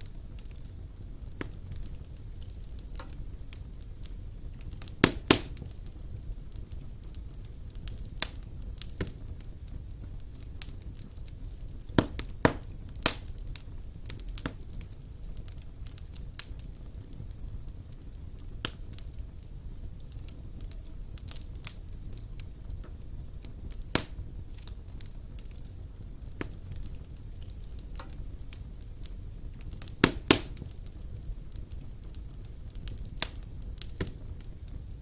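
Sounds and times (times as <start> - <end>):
fire crackles and pops: 0.0 - 35.0
fire low rumble: 0.0 - 35.0.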